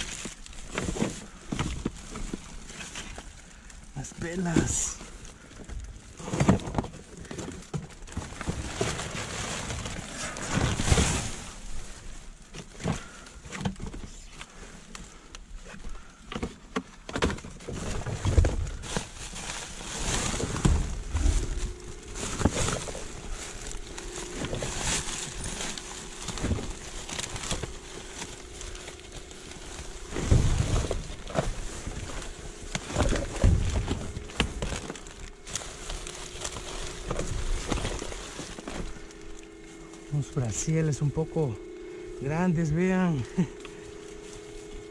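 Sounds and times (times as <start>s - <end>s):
plastic bags rustling: 0.0s - 44.9s.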